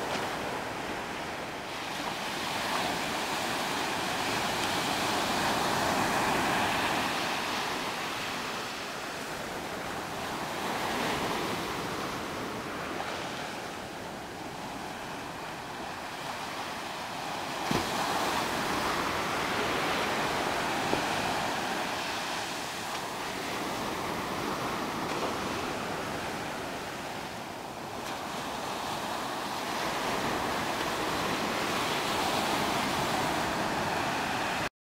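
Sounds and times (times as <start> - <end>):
ocean surf breaking on beach: 0.0 - 34.7.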